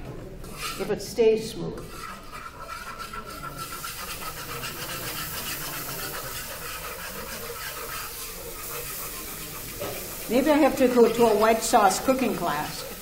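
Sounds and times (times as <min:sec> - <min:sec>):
whisk scraping metal wok: 0:00.4 - 0:13.0.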